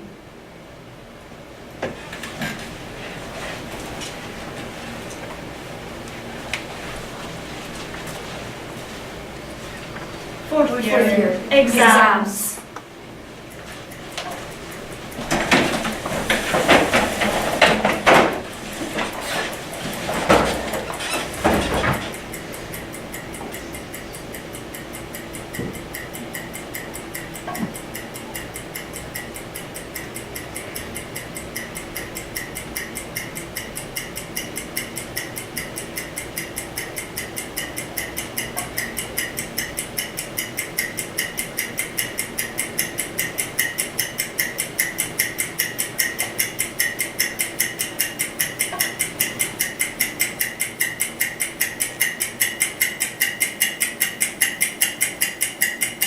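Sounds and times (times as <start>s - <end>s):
clock ticking rapidly: 10.5s - 56.0s.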